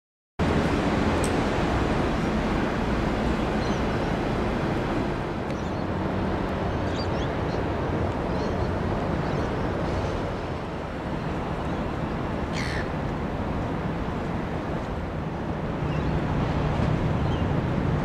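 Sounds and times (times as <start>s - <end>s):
distant traffic: 0.4s - 18.0s
wind: 0.4s - 18.0s.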